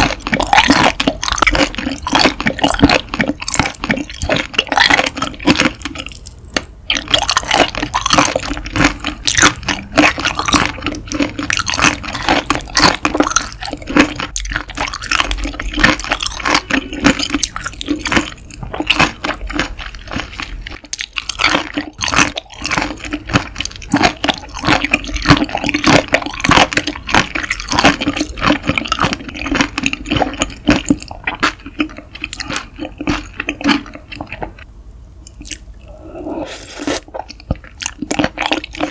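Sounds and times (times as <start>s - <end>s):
wet chewing of raw seafood: 0.0s - 38.9s.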